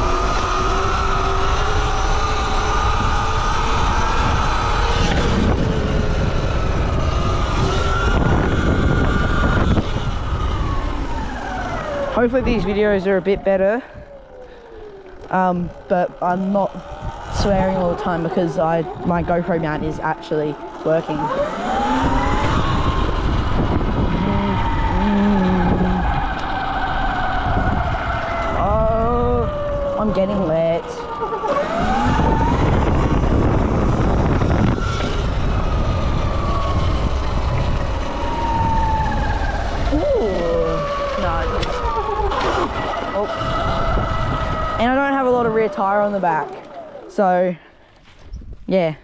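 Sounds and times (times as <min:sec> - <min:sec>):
motorbike engine under throttle: 0:00.0 - 0:48.5
wind buffeting microphone: 0:00.0 - 0:49.0.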